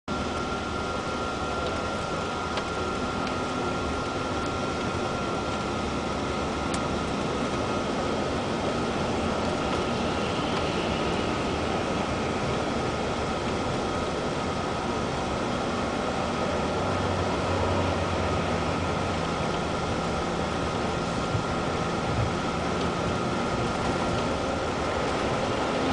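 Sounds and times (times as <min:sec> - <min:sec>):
bus engine drone: 0:00.1 - 0:25.9
road noise: 0:00.1 - 0:25.9
thin steady whine: 0:00.1 - 0:25.9.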